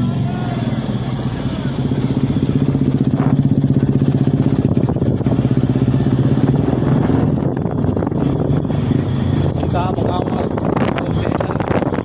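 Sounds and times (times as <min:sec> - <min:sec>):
diesel truck engine throbbing: 0:00.0 - 0:12.0.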